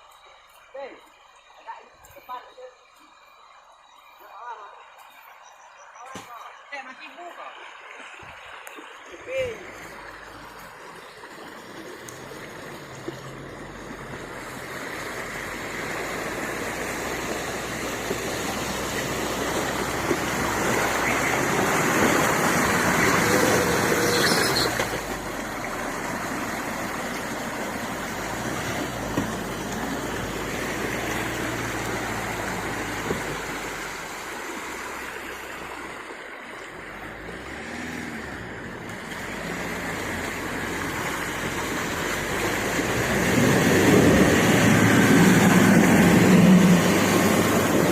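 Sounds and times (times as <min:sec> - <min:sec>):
pickup engine running off-road: 0:08.2 - 0:47.9.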